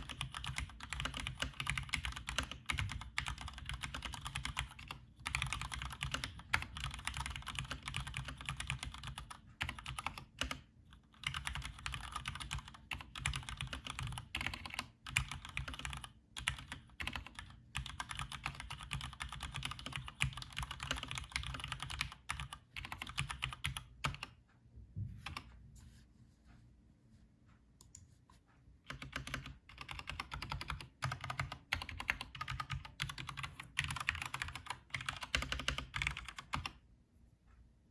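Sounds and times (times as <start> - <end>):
mechanical keyboard typing: 0.0 - 24.4, 28.9 - 36.8.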